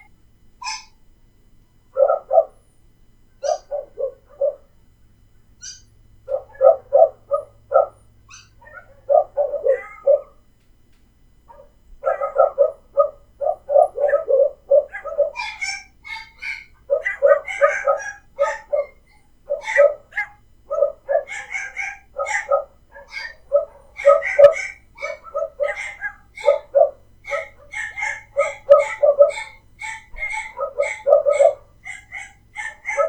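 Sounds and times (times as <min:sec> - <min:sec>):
dogs barking: 0:00.0 - 0:01.1, 0:01.9 - 0:02.6, 0:03.4 - 0:04.8, 0:05.6 - 0:10.5, 0:11.4 - 0:33.0.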